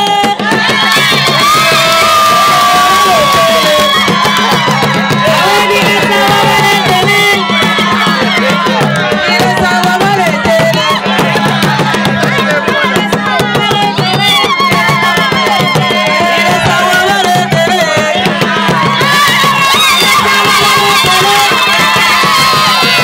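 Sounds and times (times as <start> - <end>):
hand drums beating: 0.0 - 23.0
voices singing: 0.0 - 23.0.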